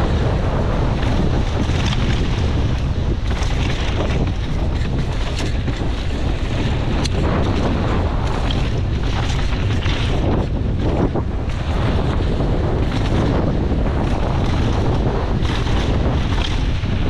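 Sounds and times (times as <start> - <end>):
bike tyres on loose dirt: 0.0 - 17.0
sharp clicks and rattles: 0.0 - 17.0
wind buffeting microphone: 0.0 - 17.0.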